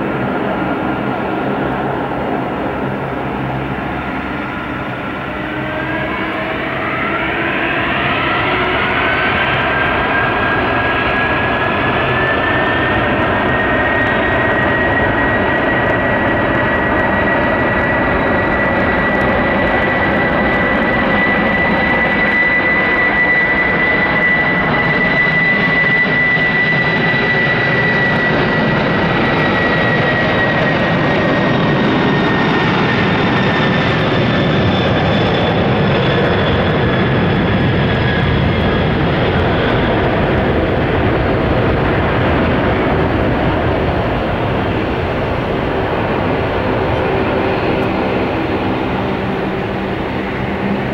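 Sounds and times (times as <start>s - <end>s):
jet engines roaring at takeoff: 0.0s - 50.9s.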